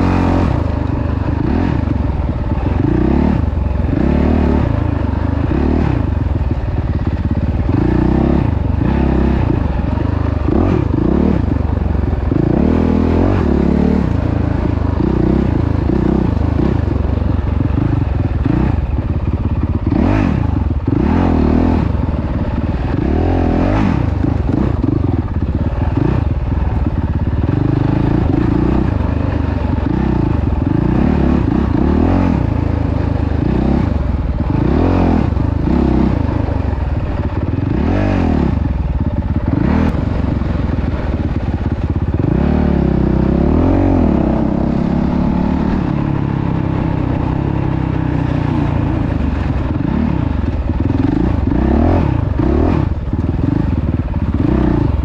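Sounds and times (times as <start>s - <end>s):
vehicle engine revving: 0.0s - 55.0s
vehicle rattling and scraping: 0.0s - 55.0s.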